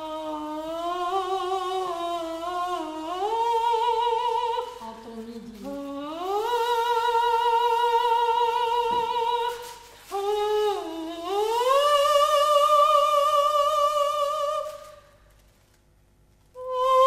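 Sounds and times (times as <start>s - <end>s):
soprano singing with vibrato: 0.0s - 15.1s, 16.6s - 17.0s.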